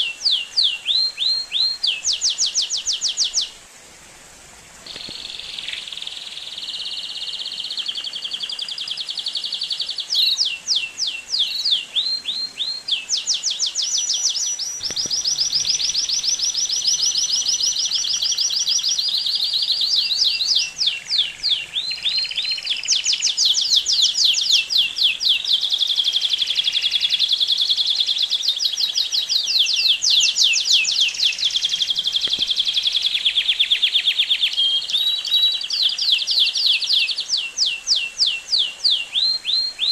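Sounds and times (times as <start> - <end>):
canary singing: 4.9 - 39.9.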